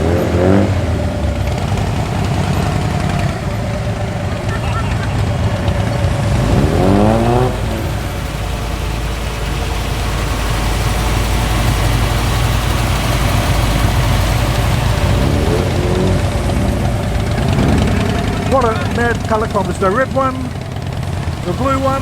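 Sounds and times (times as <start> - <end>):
car engine revving: 0.0 - 22.0
car engines rumbling low: 0.0 - 22.0.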